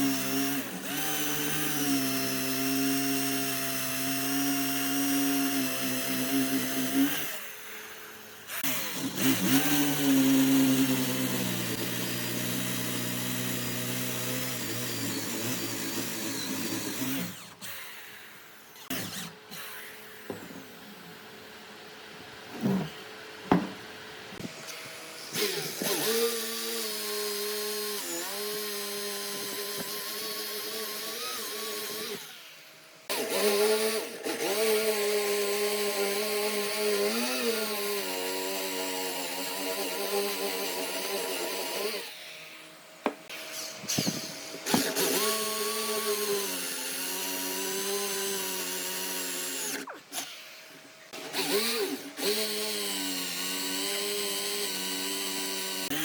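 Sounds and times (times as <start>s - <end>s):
electric power tool motor running: 0.0s - 20.9s, 24.4s - 56.0s.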